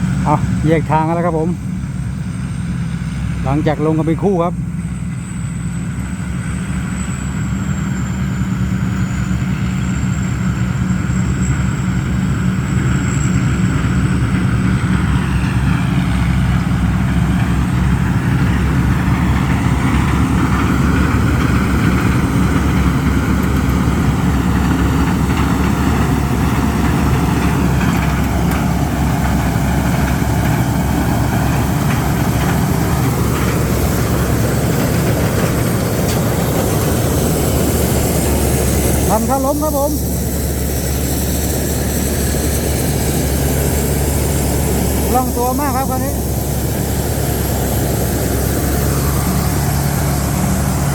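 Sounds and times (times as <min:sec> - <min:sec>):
combine harvester engine running: 0:00.0 - 0:50.9.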